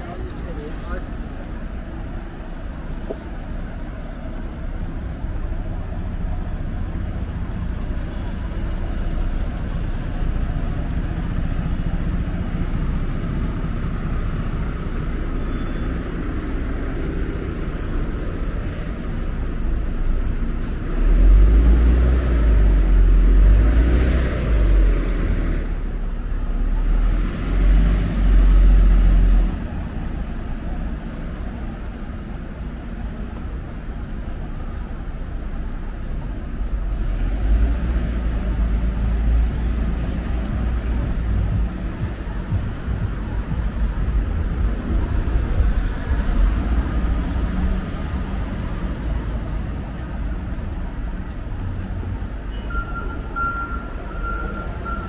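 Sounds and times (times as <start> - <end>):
loud low vehicle rumble: 0.0 - 55.0
street traffic hum: 0.0 - 55.0.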